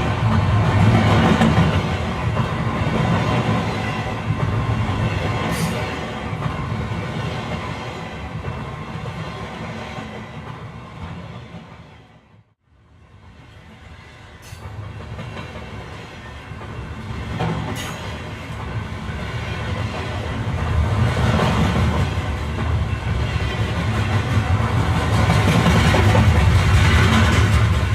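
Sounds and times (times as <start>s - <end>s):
rail clatter: 0.0s - 11.9s, 14.4s - 27.9s
train rumbling on track: 0.0s - 27.9s.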